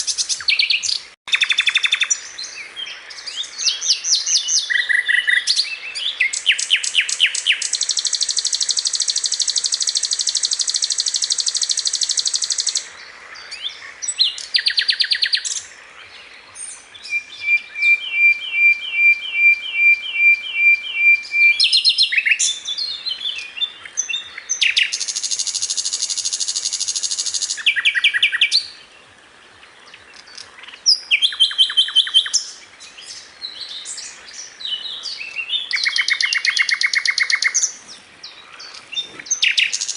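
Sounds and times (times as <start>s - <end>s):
bird singing trills: 0.0s - 29.0s, 29.6s - 39.9s.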